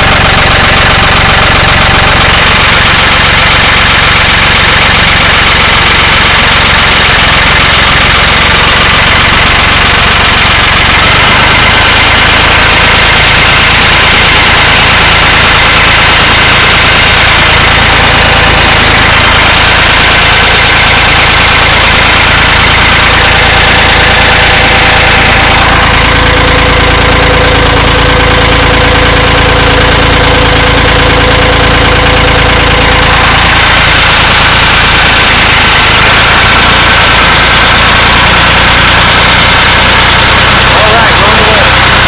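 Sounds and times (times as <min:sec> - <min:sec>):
steady whine: 0:00.0 - 0:42.0
tractor diesel engine running: 0:00.0 - 0:42.0.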